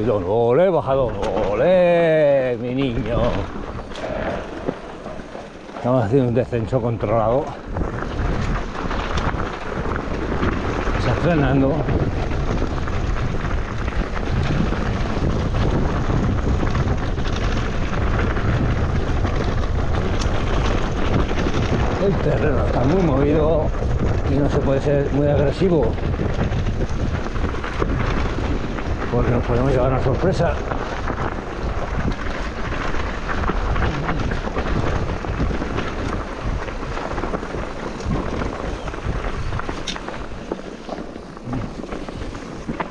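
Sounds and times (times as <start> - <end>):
bike tyres rattling over stones: 0.0 - 42.9
wind rumble on microphone: 0.0 - 42.9.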